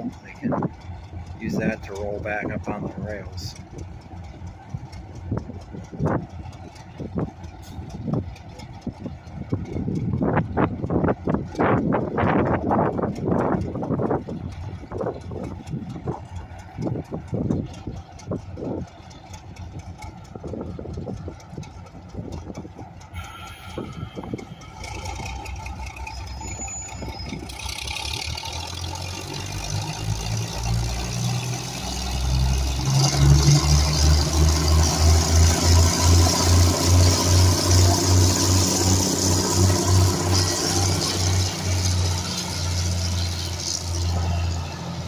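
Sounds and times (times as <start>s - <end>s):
diesel locomotive engines rumbling: 0.0s - 45.0s.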